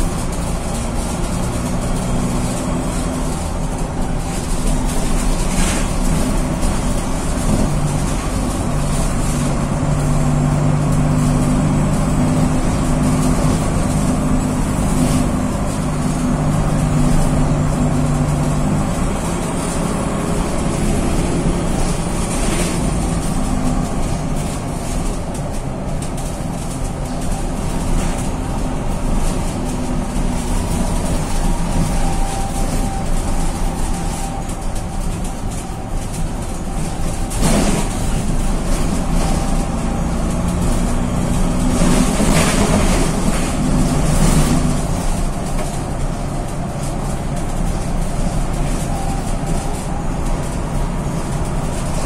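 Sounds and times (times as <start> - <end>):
bus diesel engine droning: 0.0 - 52.0.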